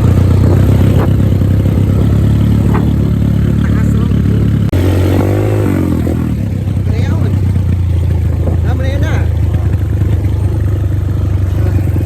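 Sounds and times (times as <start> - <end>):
vehicle engine droning under load: 0.0 - 12.0.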